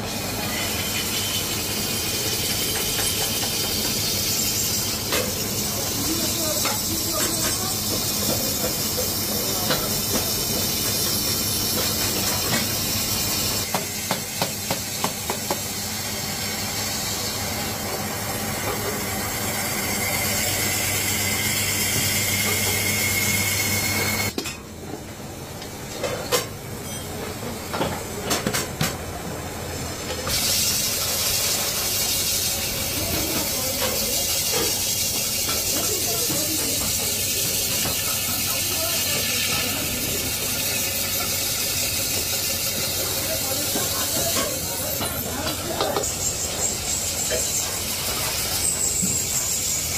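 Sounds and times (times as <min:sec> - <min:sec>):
tool hissing against spinning metal: 0:00.0 - 0:24.3, 0:30.2 - 0:49.9.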